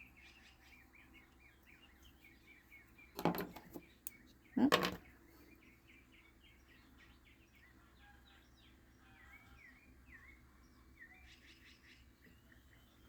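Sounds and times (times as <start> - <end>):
low steady background hum: 0.0 - 13.0
small birds chirping: 0.0 - 13.0.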